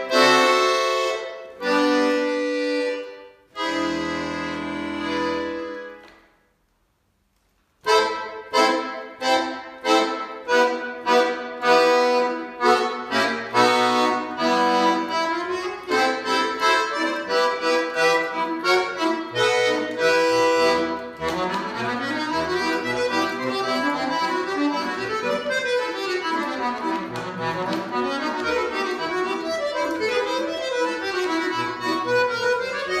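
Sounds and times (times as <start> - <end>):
button accordion playing: 0.0 - 6.1, 7.8 - 33.0.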